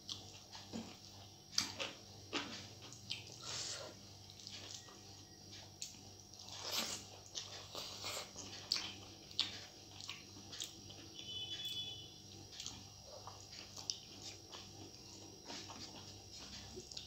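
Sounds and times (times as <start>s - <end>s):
person chewing food: 0.0s - 11.7s, 12.3s - 17.0s.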